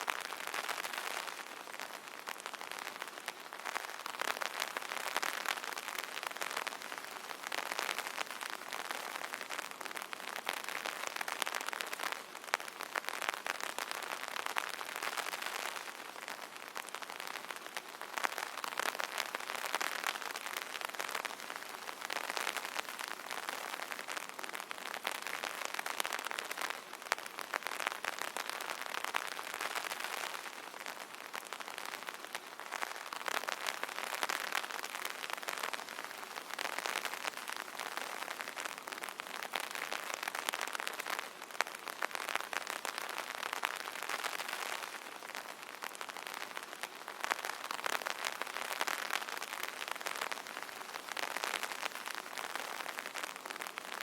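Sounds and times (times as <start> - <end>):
rain pattering on an umbrella: 0.0 - 54.0.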